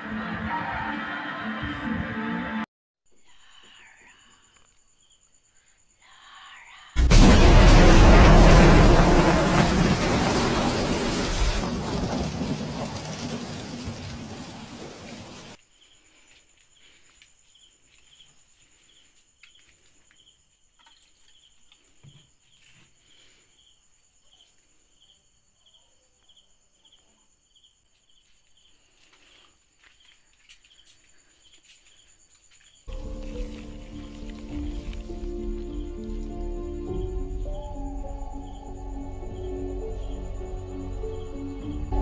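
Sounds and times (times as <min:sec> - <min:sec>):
crickets chirping: 0:03.0 - 0:42.0.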